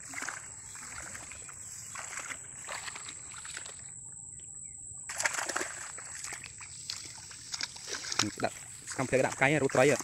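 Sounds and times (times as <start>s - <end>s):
water splashing from wading: 0.0s - 3.9s, 5.0s - 10.0s.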